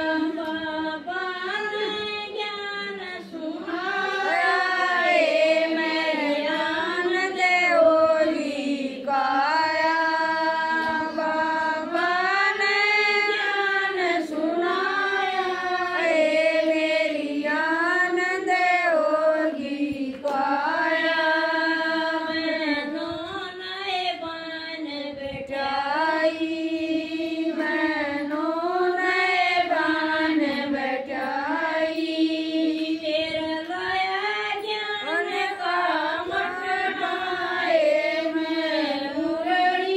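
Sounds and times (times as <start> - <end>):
woman singing devotional song: 0.0 - 39.9.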